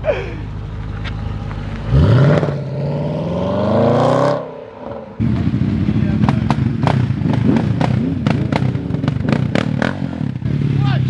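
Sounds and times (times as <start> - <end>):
car engine accelerating: 0.6 - 11.0.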